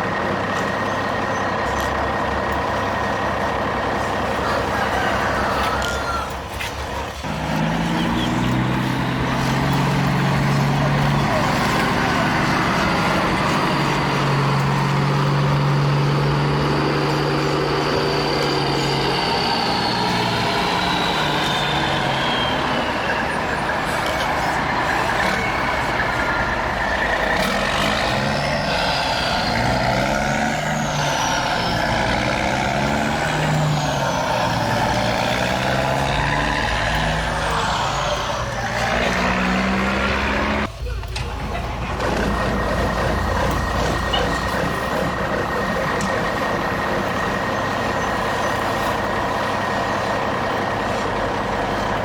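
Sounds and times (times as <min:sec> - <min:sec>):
truck engine sound: 0:00.0 - 0:52.0
electric motors and gears whining: 0:05.6 - 0:52.0.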